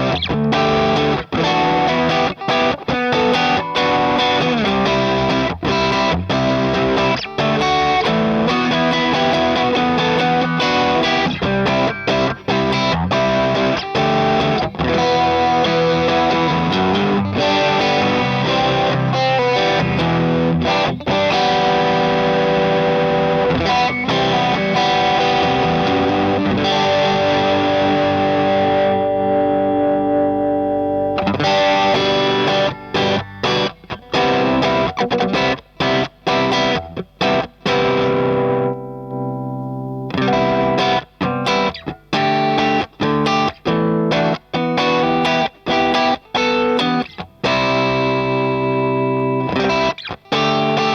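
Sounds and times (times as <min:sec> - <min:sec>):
distorted electric guitar chords: 0:00.0 - 0:50.9.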